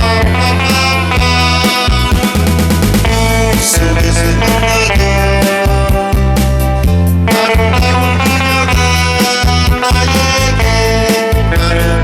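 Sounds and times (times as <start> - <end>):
backing track with bass beat: 0.0 - 12.0
guitar melody: 0.0 - 12.0.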